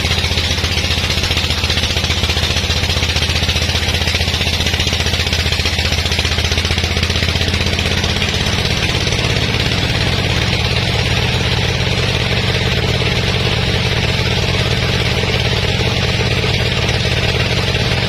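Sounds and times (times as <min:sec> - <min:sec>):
sawmill engine droning: 0:00.0 - 0:18.0.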